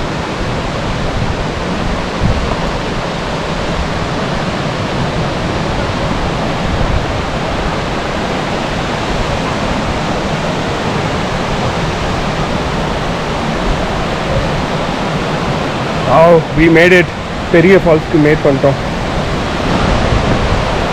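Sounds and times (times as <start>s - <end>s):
large waterfall pouring: 0.0s - 20.9s.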